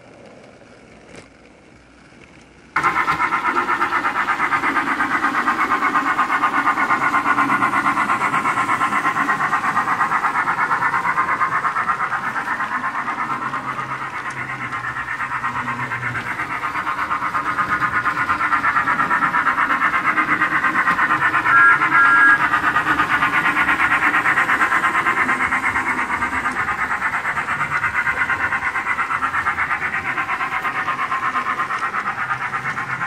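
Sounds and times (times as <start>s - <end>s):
steam engine chuffing: 2.7s - 33.0s.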